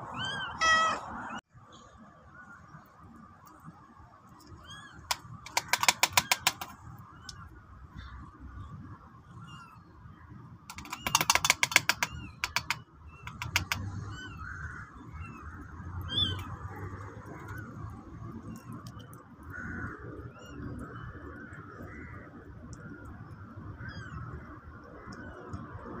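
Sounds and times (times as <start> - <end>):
small birds chirping: 4.3 - 26.0.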